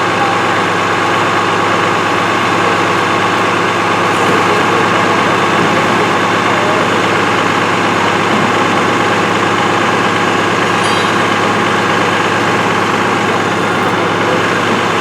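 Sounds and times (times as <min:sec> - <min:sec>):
fire engine idling: 0:00.0 - 0:15.0.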